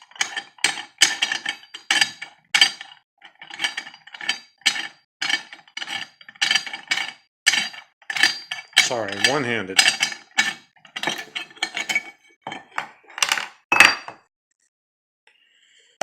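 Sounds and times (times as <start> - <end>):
metal parts clinking and rattling: 0.1 - 13.6.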